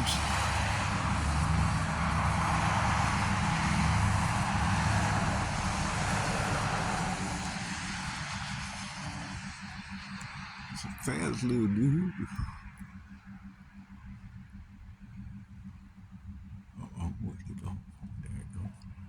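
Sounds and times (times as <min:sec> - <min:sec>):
steady engine rumble: 0:00.0 - 0:19.0.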